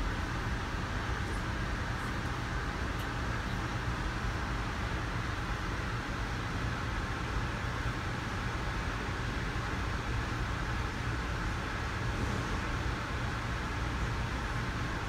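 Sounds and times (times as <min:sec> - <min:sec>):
muffled train rumble and hiss: 0:00.0 - 0:15.0.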